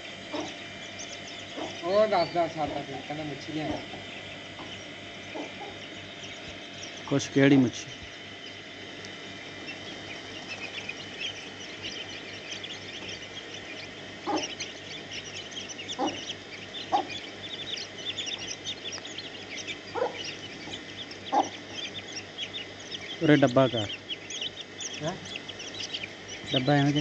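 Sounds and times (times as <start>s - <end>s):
chicks peeping: 0.0s - 27.0s
hen clucking: 0.0s - 27.0s.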